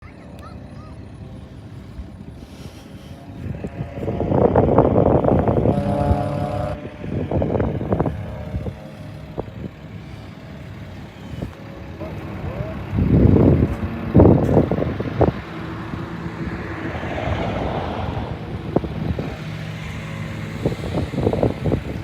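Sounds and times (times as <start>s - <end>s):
jet fighter engine roar: 1.5s - 22.0s.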